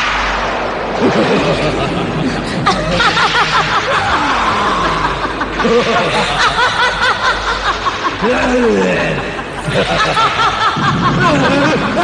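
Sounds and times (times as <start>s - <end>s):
steady rushing noise: 0.0s - 12.0s
high-pitched cackling laughter: 1.0s - 12.0s.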